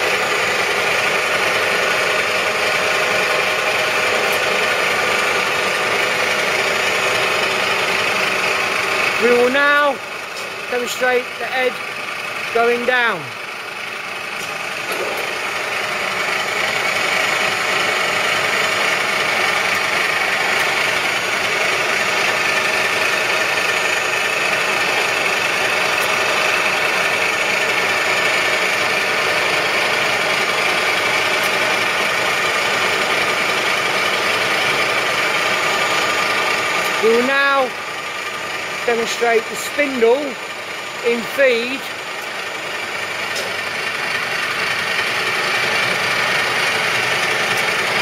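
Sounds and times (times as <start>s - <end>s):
boring machine motor hum and whine: 0.0s - 48.0s.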